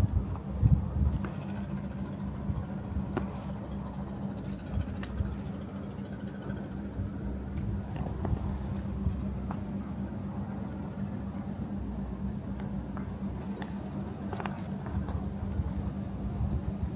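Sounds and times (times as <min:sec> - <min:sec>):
low mechanical hum: 0:00.0 - 0:16.9
low rumbling: 0:00.0 - 0:16.9.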